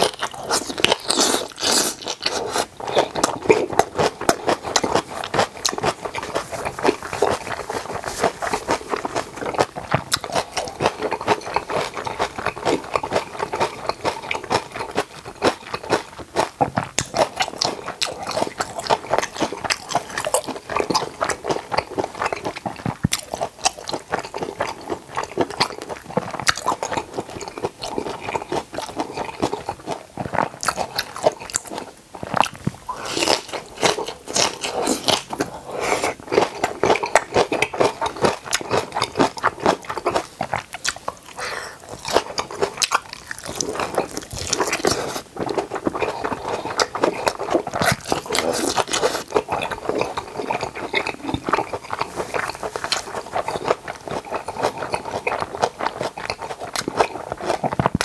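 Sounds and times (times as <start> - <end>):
crackly chewing and biting: 0.0 - 58.0.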